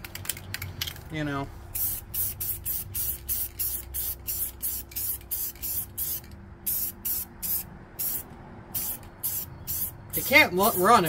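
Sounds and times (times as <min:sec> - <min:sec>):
spray-paint can hissing: 0:01.8 - 0:10.9.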